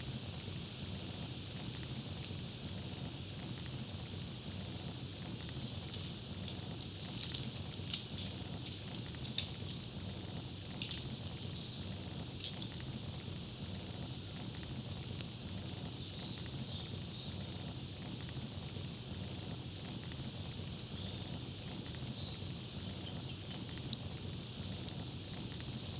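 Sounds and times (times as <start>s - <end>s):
campfire crackling and popping: 0.0s - 25.9s
hiss of flames: 0.0s - 25.9s.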